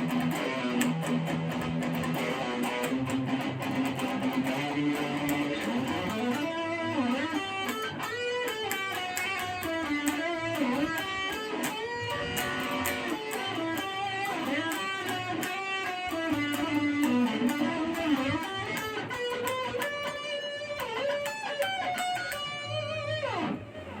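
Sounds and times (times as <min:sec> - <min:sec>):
electric guitar lead line: 0:00.0 - 0:24.0.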